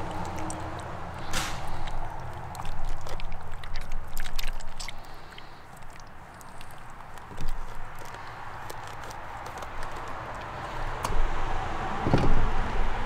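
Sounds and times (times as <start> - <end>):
octopus flesh being cut: 0.0 - 10.5.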